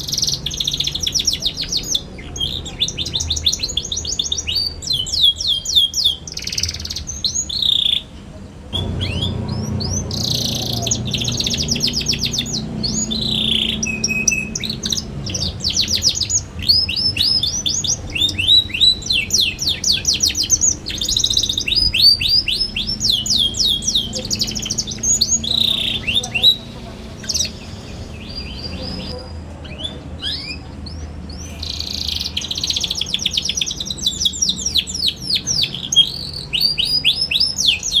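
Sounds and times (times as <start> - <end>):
canary singing trills: 0.0 - 38.0.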